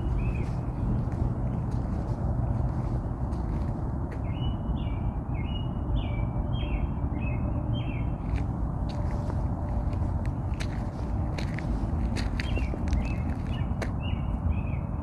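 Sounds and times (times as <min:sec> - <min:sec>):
low background rumble: 0:00.0 - 0:14.7
songbird singing: 0:00.0 - 0:15.0.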